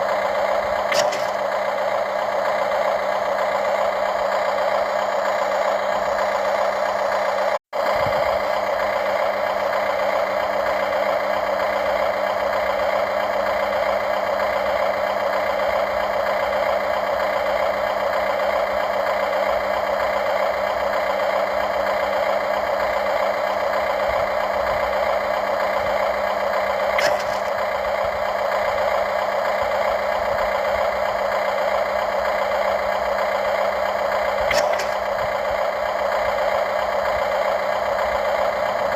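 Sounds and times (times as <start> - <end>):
model excavator mechanical drone: 0.0 - 38.9.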